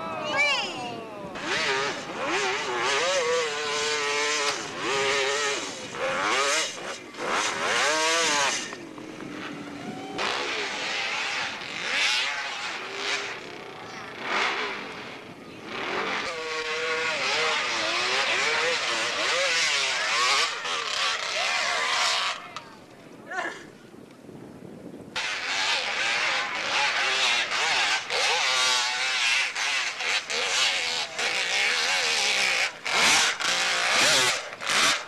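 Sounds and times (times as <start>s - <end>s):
dirt bike engines revving: 0.0s - 23.7s, 25.1s - 35.0s.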